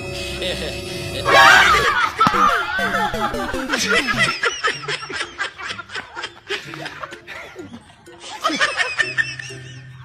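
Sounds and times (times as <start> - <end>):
man laughing hard: 0.4 - 10.0.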